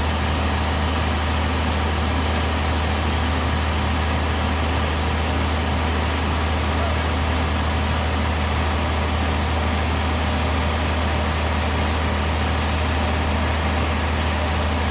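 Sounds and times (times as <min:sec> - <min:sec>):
engine low drone: 0:00.0 - 0:14.9.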